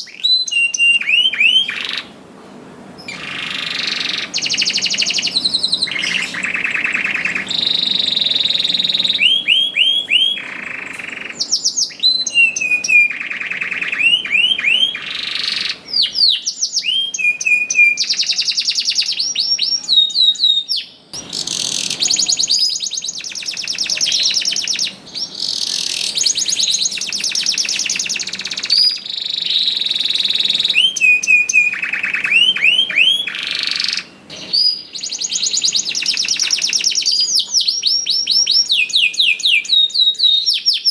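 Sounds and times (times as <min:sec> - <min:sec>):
canary singing: 0:00.0 - 0:02.2, 0:02.9 - 0:40.9.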